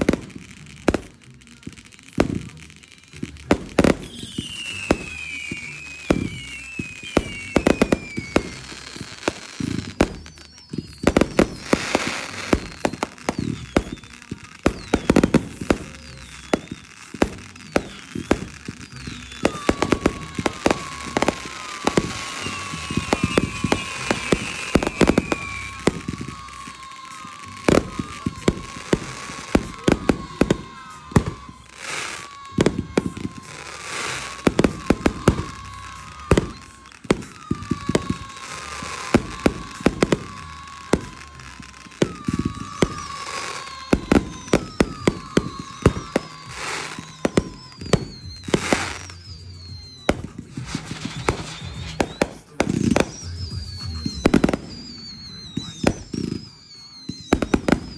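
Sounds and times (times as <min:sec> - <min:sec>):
fireworks bangs and crackling: 0:00.0 - 0:57.9
fireworks falling whistles: 0:00.0 - 0:57.9.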